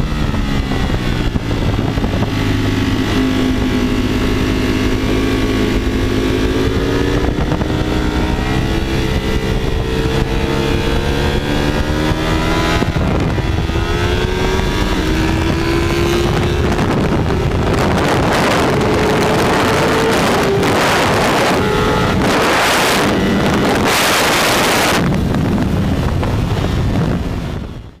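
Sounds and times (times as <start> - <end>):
motorcycle engine revving: 0.0 - 28.0
wind rushing over microphone: 0.0 - 28.0.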